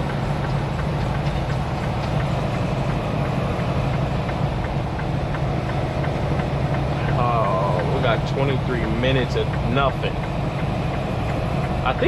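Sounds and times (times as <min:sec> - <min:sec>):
diesel truck engine drone: 0:00.0 - 0:12.0
road noise: 0:00.0 - 0:12.0.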